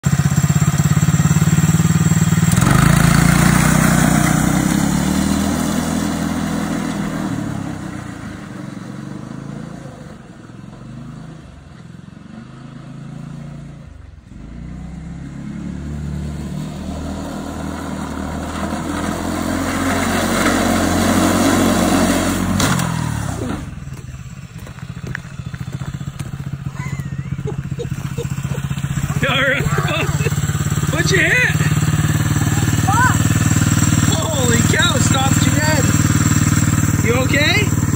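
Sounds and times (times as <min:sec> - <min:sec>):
small snowmobile engine revving: 0:00.0 - 0:37.9.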